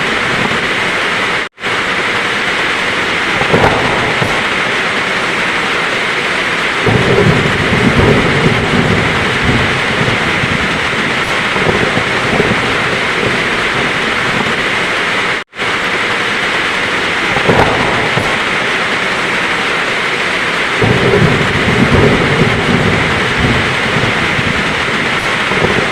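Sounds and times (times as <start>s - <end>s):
heavy rain: 0.0s - 25.9s
thunder rumbling: 0.0s - 25.9s.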